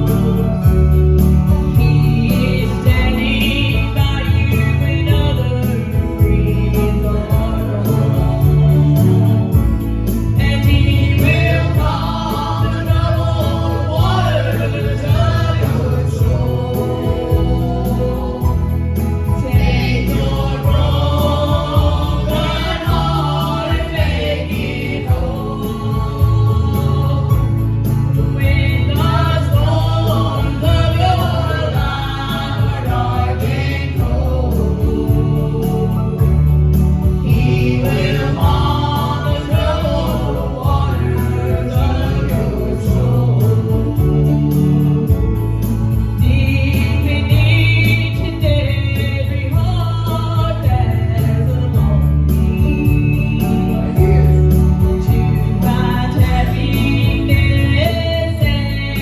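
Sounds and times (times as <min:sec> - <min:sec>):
gospel group singing: 0:00.0 - 0:59.0
instrumental accompaniment: 0:00.0 - 0:59.0.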